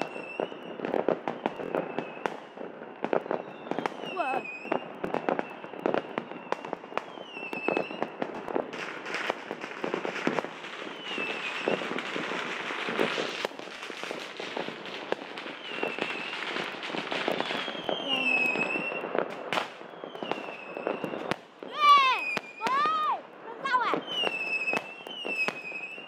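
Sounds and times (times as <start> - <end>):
fireworks bursting and crackling: 0.0 - 26.0
fireworks whistles: 0.0 - 26.0.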